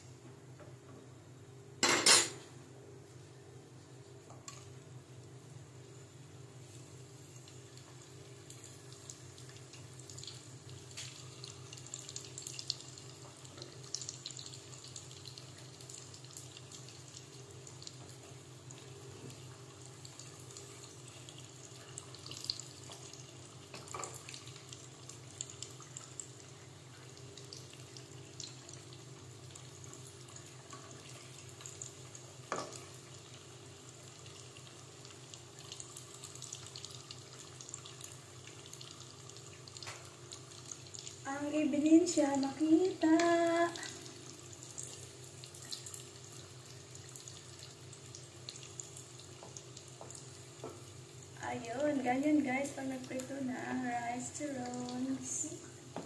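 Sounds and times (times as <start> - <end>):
hot oil sizzling and bubbling: 4.3 - 56.0.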